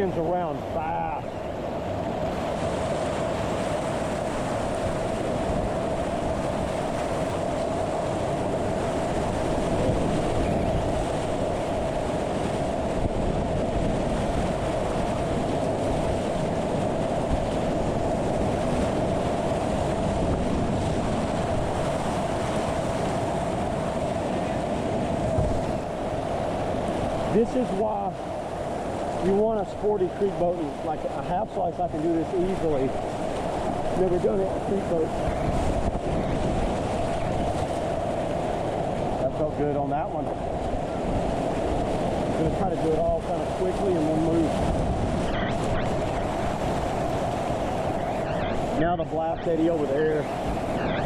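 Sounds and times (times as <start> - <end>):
constant midrange hum: 0.0 - 51.0
river water rushing: 0.0 - 51.0.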